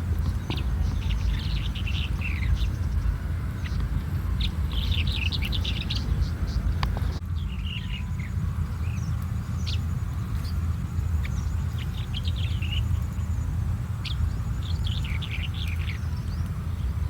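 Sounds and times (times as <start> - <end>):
bunting chirping song: 0.0 - 17.0
steady low rumble: 0.0 - 17.0.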